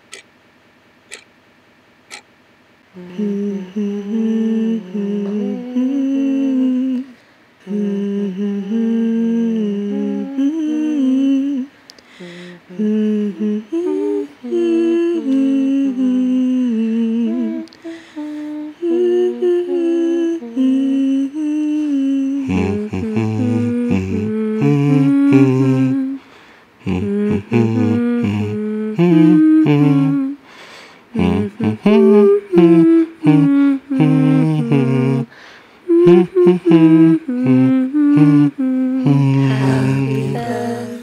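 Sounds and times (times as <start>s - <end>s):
person humming a slow tune: 2.9s - 41.0s.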